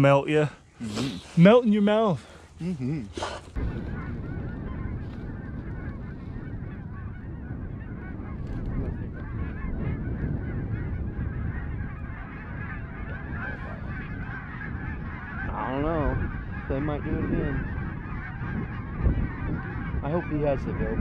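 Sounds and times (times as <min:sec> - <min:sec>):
low rumble: 0:02.6 - 0:21.0
geese honking in flight: 0:03.2 - 0:21.0.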